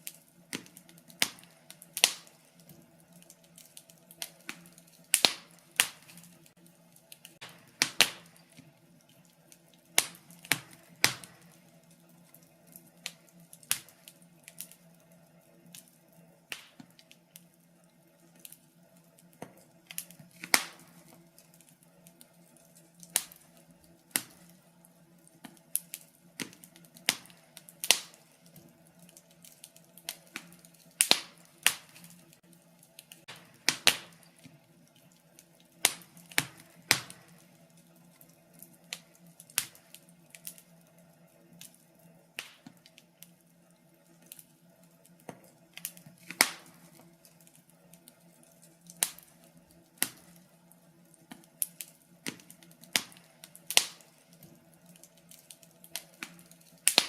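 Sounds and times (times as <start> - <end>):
fireplace wood fire crackling: 0.0 - 57.0.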